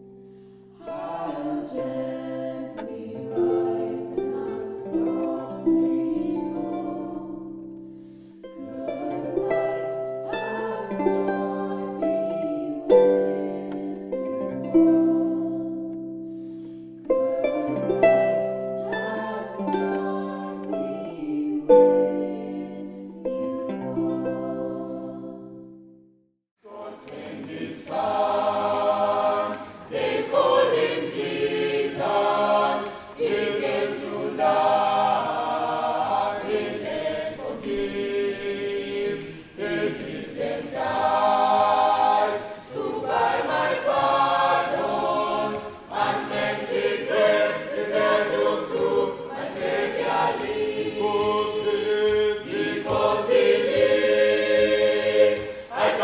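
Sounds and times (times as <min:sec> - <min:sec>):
choir singing: 0:00.8 - 0:07.7, 0:08.4 - 0:15.8, 0:17.0 - 0:25.6, 0:26.6 - 0:56.0.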